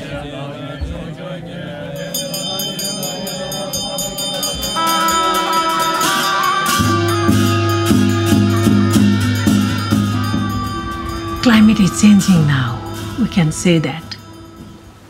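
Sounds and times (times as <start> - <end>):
held instrumental notes: 2.0 - 15.0
high ringing bell tones: 2.0 - 15.0
deep steady drone: 2.1 - 15.0.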